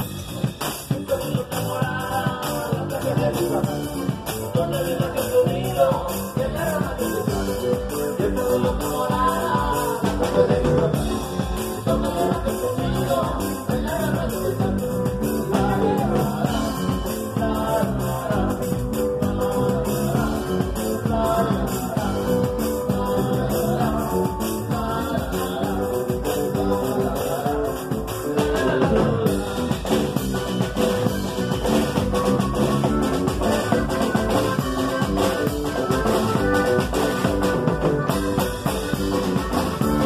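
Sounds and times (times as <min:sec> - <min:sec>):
bass guitar: 0:00.0 - 0:40.0
live band through loudspeakers: 0:00.0 - 0:40.0
steady drum beat: 0:00.0 - 0:40.0.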